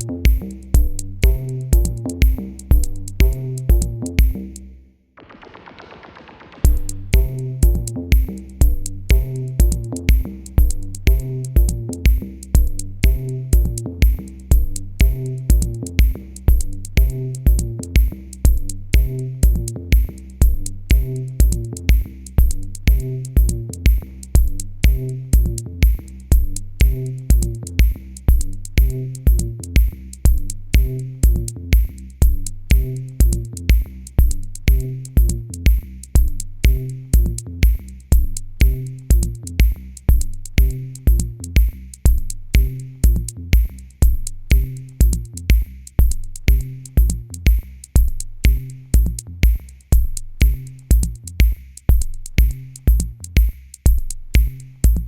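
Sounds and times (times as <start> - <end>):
drum-machine beat: 0.0 - 4.6, 5.2 - 55.0.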